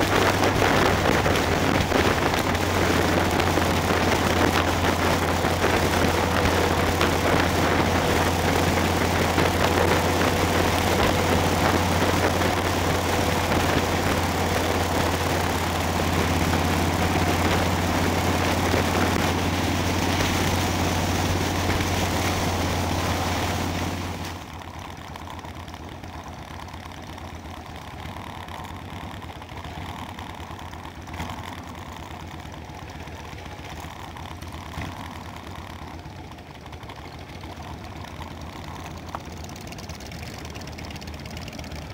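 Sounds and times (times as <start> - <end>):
motorcycle engine drone: 0.0 - 41.9
motorcycle engines idling: 0.0 - 41.9.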